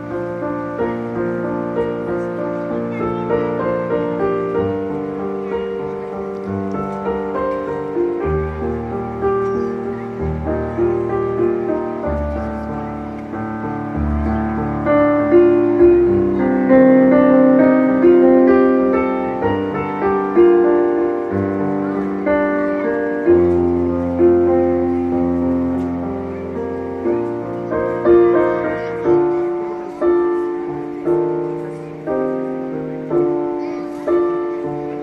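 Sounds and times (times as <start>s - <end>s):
slow piano ballad: 0.0s - 35.0s.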